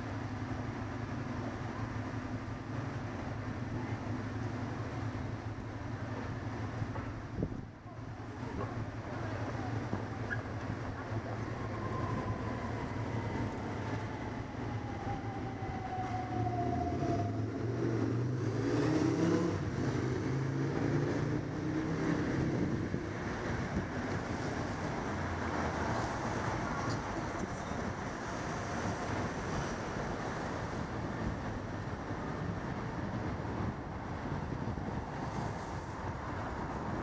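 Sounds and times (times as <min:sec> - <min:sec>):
vehicle rumble: 0:00.0 - 0:37.0.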